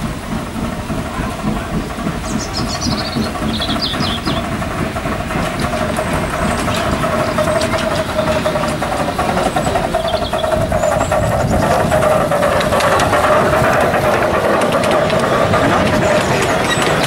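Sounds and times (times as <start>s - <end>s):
miniature steam locomotive running: 0.0s - 17.0s
wheels clicking on track: 0.0s - 17.0s.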